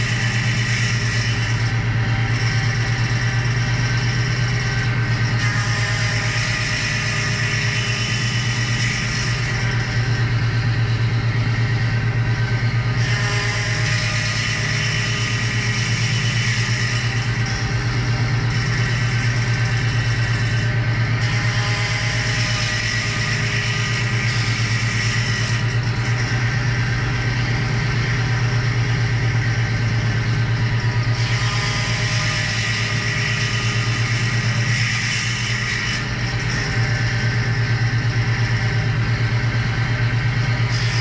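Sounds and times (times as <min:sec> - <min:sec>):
motor-driven machine humming: 0:00.0 - 0:41.0.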